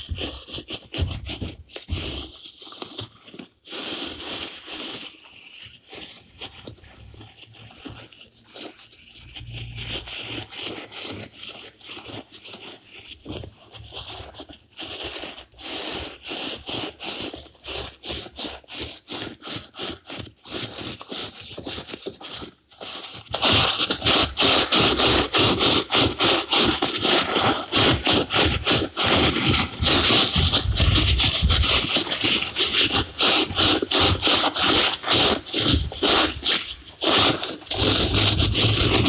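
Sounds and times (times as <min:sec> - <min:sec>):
rhythmic scratching and scraping: 0:00.0 - 0:19.6, 0:23.0 - 0:39.0.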